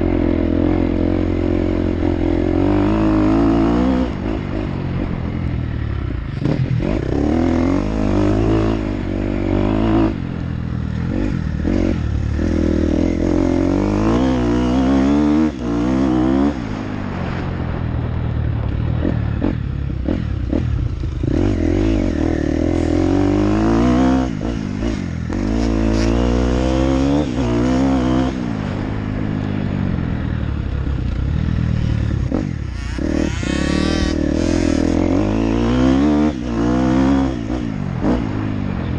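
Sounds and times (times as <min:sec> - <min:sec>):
dirt bike engine revving: 0:00.0 - 0:17.8, 0:18.9 - 0:29.0, 0:30.5 - 0:38.9.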